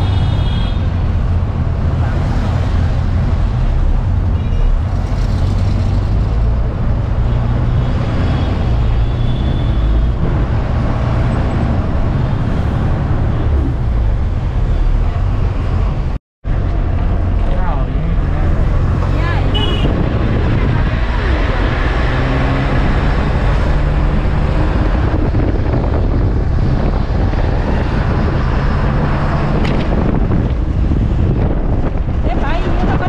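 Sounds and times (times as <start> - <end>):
road vehicle rumble: 0.0 - 33.0
street traffic: 0.0 - 33.0.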